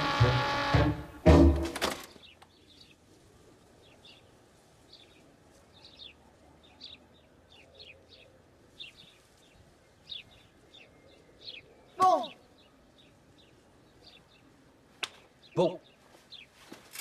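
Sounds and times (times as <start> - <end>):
faint birds chirping: 1.9 - 17.0.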